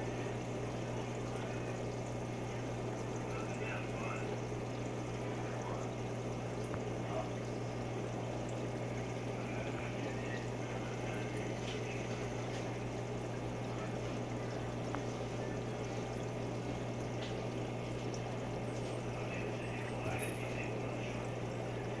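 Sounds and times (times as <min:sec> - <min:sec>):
aquarium filter hum: 0:00.0 - 0:22.0
water trickling and splashing: 0:00.0 - 0:22.0.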